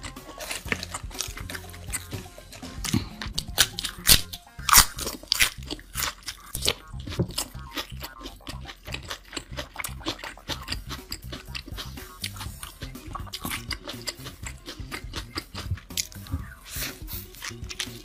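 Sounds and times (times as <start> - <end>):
background music with low beat: 0.0 - 18.0
chewing and crunching food: 0.0 - 18.0.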